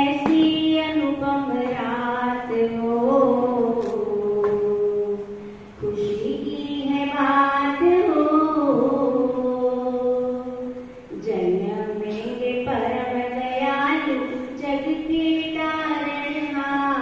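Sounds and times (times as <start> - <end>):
woman chanting through loudspeakers: 0.0 - 17.0.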